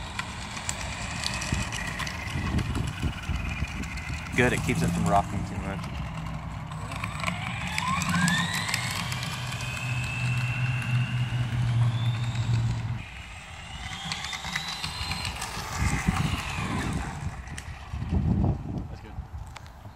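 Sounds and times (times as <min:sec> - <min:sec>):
toy car motor whining: 0:00.0 - 0:18.5.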